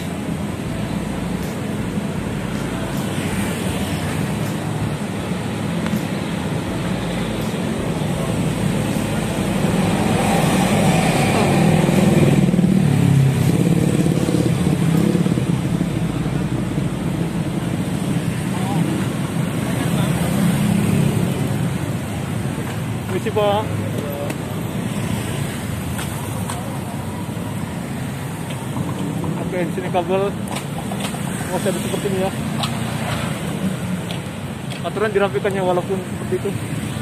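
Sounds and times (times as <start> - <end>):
cars and motorcycles passing: 0.0 - 37.0.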